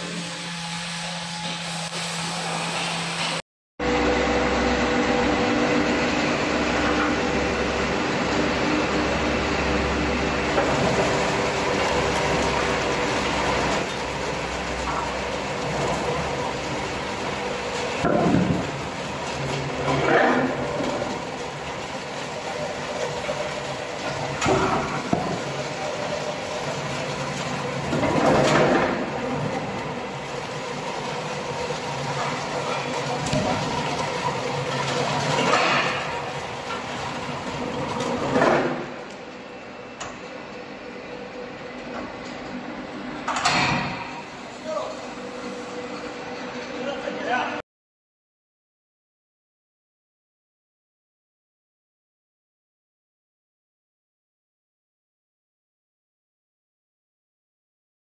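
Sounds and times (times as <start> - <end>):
log debarker machine hum: 0.0 - 47.6.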